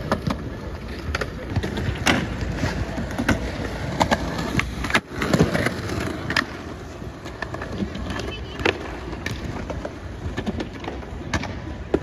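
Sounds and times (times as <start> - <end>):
skateboard clacks: 0.0 - 12.0
skateboard wheels rolling on asphalt: 0.0 - 12.0.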